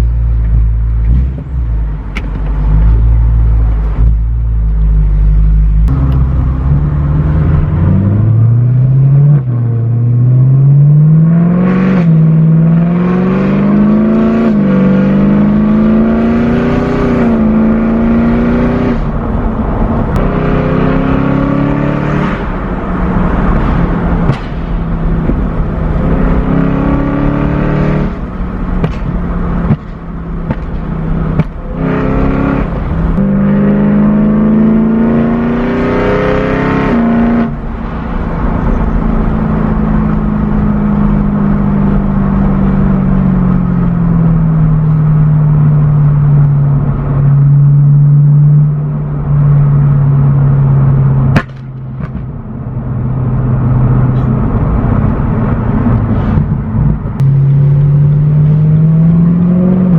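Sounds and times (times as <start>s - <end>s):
car engine revving through exhaust: 0.0s - 59.9s.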